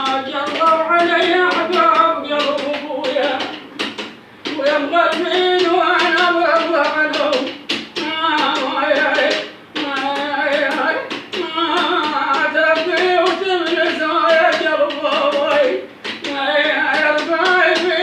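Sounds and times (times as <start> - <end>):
old man singing: 0.0 - 3.8, 4.4 - 18.0
hand taps: 0.0 - 18.0.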